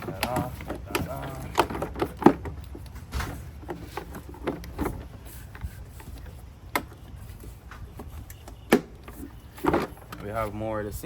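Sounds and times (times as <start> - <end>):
plastic car parts clicking: 0.0 - 10.5.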